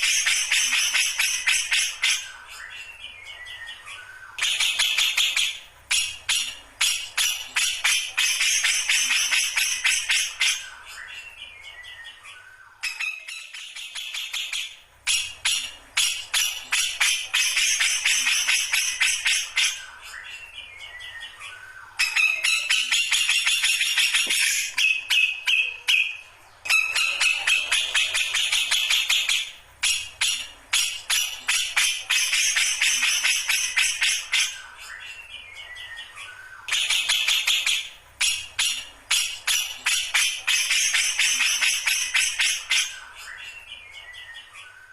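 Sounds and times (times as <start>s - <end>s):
bird singing rattling chatter: 0.0s - 44.9s.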